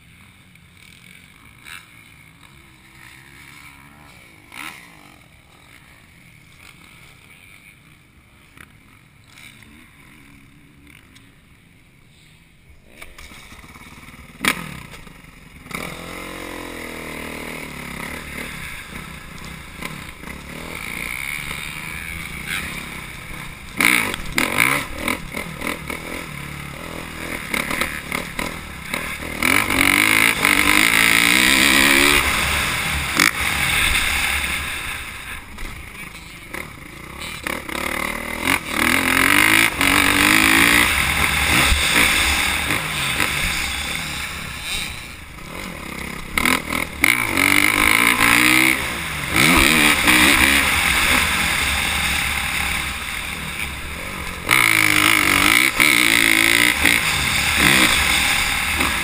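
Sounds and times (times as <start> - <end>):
dirt bike engine revving: 0.0 - 11.5, 12.8 - 59.0.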